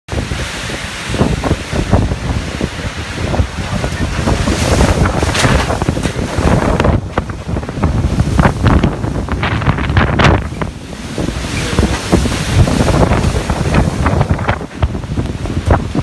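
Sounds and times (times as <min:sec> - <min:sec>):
strong wind buffeting microphone: 0:00.1 - 0:16.0.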